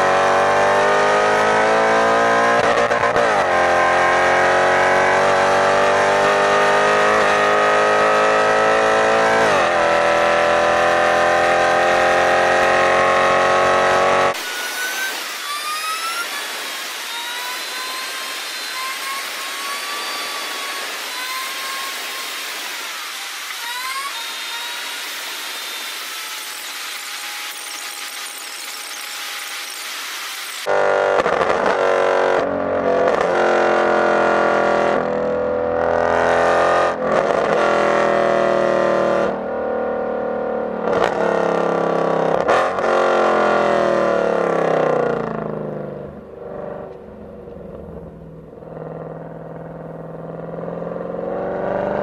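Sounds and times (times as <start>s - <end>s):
car engine accelerating hard: 0.0s - 29.5s, 30.6s - 52.0s
high-pitched sped-up engine whine: 0.0s - 52.0s.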